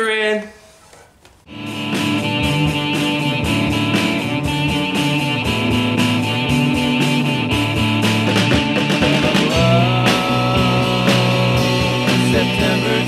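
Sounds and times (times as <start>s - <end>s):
rock guitar: 1.5s - 13.0s
steady drum beat: 1.5s - 13.0s.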